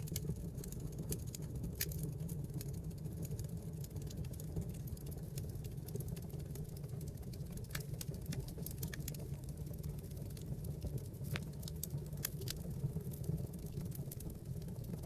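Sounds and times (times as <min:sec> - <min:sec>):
burning logs popping: 0:00.0 - 0:15.0
low rumble of flames: 0:00.0 - 0:15.0
wood fire crackling: 0:00.0 - 0:15.0.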